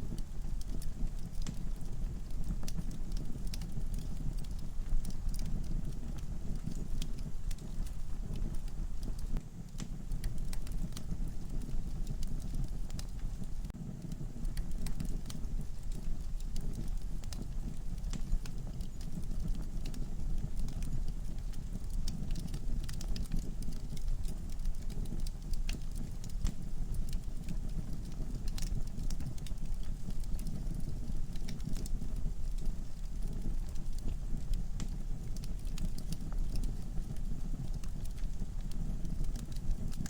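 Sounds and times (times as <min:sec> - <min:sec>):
logs crackling and popping: 0:00.0 - 0:40.0.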